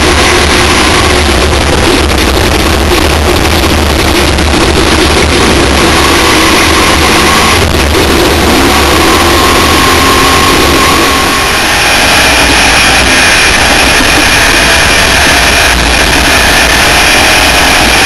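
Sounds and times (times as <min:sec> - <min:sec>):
faint race car engine: 0:00.0 - 0:18.0
wind buffeting microphone: 0:00.0 - 0:18.0.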